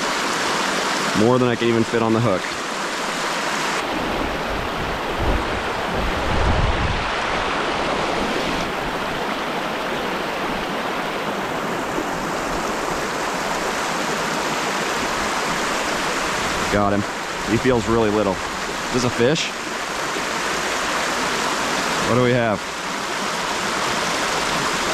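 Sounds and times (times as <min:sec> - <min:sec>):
water rushing over spillway: 0:00.0 - 0:24.9.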